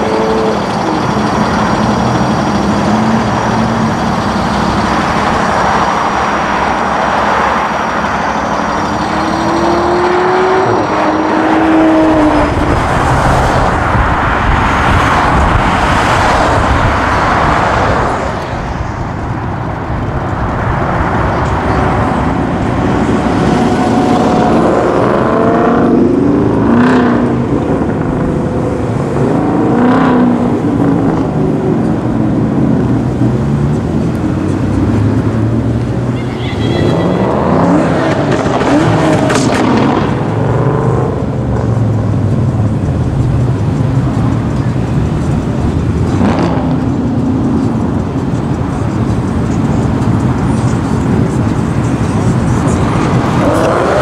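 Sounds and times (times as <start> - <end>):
cars accelerating and revving: 0.0 - 54.0
road and traffic noise: 0.0 - 54.0.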